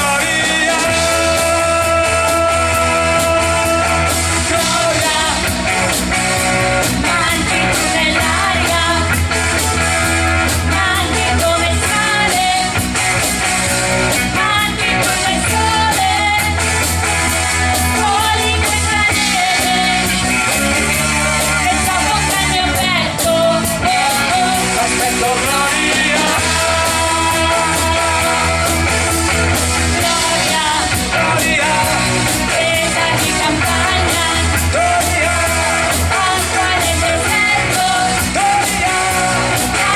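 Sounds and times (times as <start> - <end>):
lead singer singing: 0.0 - 39.9
rock band playing: 0.0 - 39.9
steady bass line: 0.0 - 39.9.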